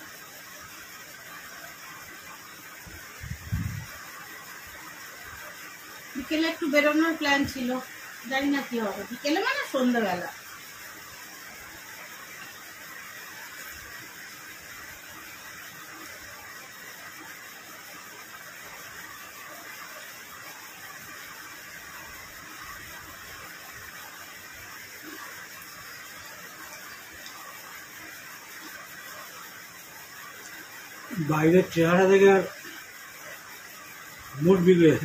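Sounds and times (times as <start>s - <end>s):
rain falling steadily: 0.0s - 35.0s.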